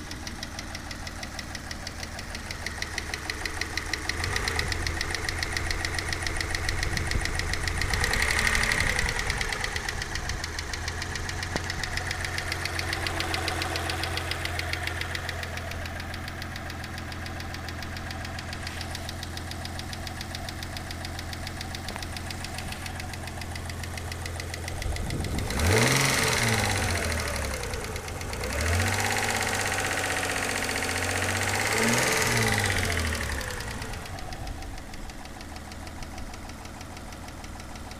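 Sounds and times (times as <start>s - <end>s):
car engine idling and revving: 0.0s - 37.9s
rhythmic engine knock: 0.0s - 37.9s.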